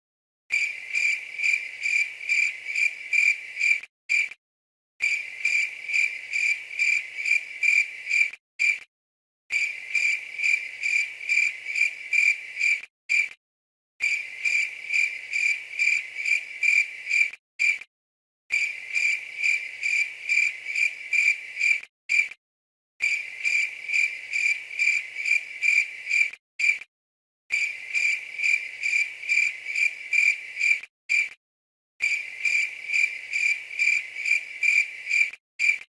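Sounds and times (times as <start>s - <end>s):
field cricket chirping: 0.5s - 4.3s, 5.0s - 8.8s, 9.5s - 13.3s, 14.0s - 17.8s, 18.5s - 22.3s, 23.0s - 26.8s, 27.5s - 31.3s, 32.0s - 35.8s.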